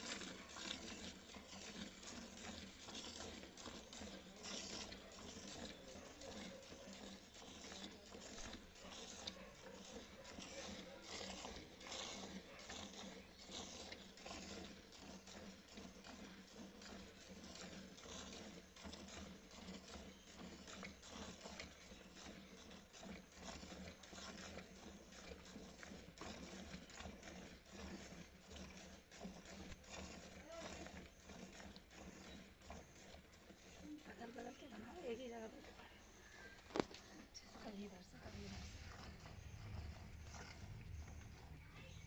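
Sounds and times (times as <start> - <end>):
milk spurting into pail: 0.0 - 42.0.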